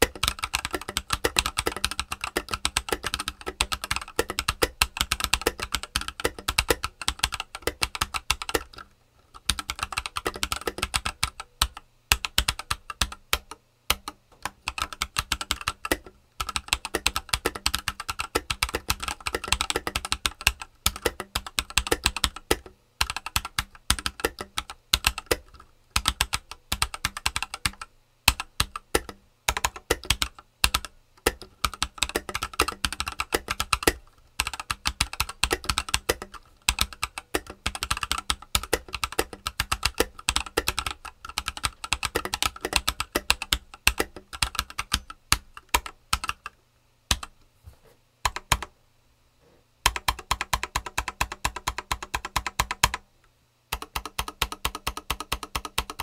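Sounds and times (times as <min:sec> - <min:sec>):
mechanical keyboard typing: 0:00.0 - 0:47.4, 0:48.2 - 0:48.7, 0:49.9 - 0:53.0, 0:53.7 - 0:56.0.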